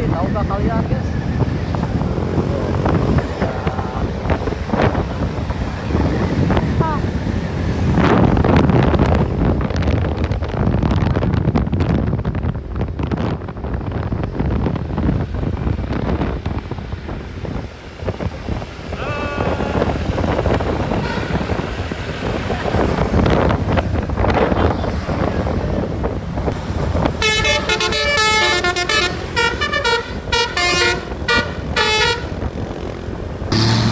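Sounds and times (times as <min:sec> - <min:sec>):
bus road and engine noise: 0:00.0 - 0:33.9
wind buffeting microphone: 0:00.0 - 0:33.9.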